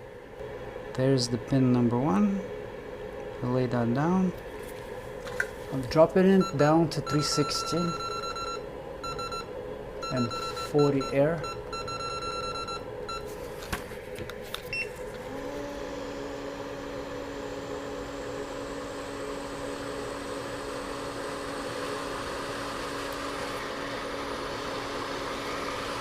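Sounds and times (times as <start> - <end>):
constant hum: 0.0 - 25.1.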